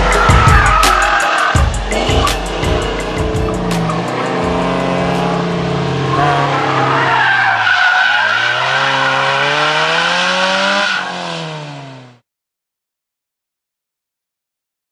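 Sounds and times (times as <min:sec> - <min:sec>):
tires squealing: 0:00.0 - 0:12.1
car engine revving: 0:00.0 - 0:12.2.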